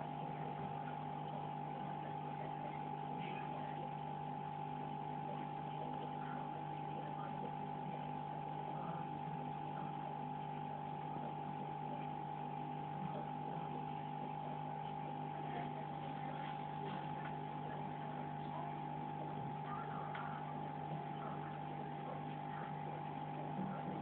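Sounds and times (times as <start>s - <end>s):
aquarium filter pump humming: 0.0s - 24.0s.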